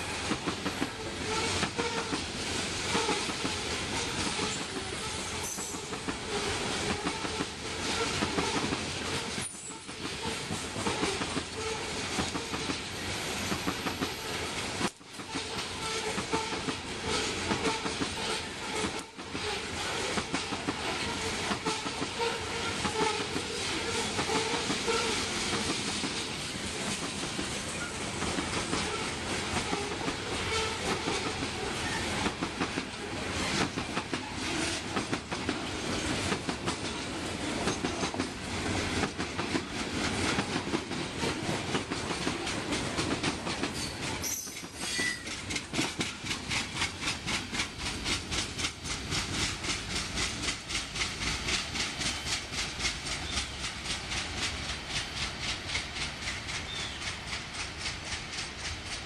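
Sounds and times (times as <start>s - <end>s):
freight train wheels clicking: 0.0s - 59.0s.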